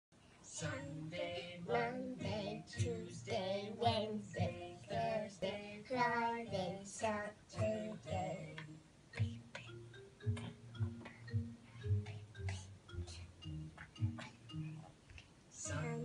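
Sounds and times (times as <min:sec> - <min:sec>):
child singing: 0:00.5 - 0:10.6, 0:12.0 - 0:14.4, 0:15.6 - 0:16.0
backing music: 0:00.6 - 0:16.0.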